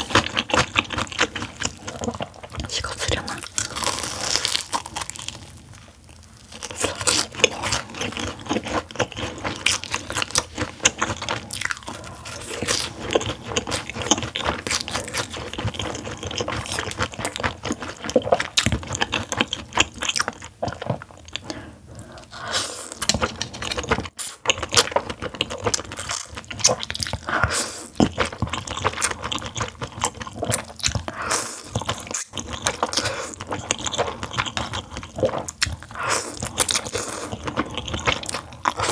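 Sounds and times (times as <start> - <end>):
crunchy chewing and biting: 0.0 - 21.4, 22.9 - 38.9.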